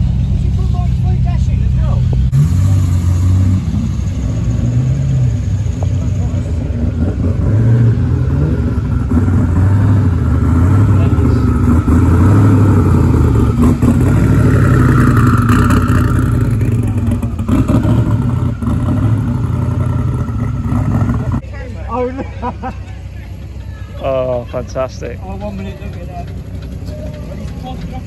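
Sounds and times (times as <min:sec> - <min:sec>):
car engines droning past: 0:00.0 - 0:28.0.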